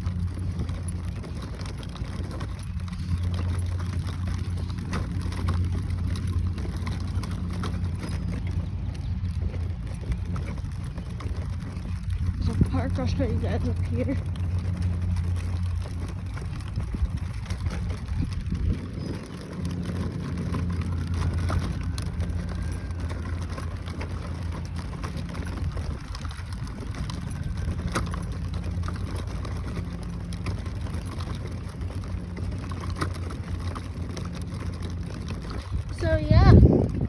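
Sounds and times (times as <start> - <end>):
crackling and light clicks: 0.0 - 36.7
stroller wheels rumbling: 0.0 - 37.0.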